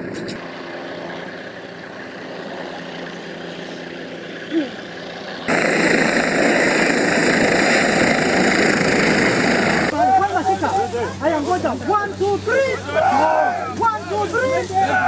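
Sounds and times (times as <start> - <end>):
helicopter turbine and rotor noise: 0.0 - 15.0.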